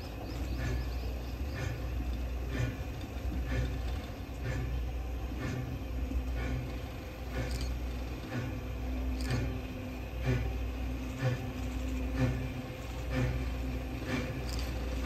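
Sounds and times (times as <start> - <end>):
steam locomotive low rumble: 0.0 - 15.0.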